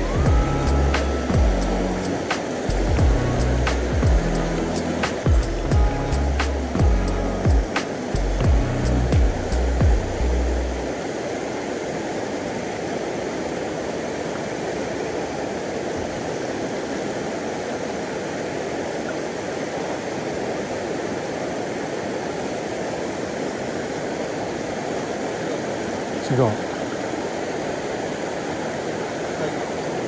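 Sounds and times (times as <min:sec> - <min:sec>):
river water rushing over rapid: 0:00.0 - 0:30.0.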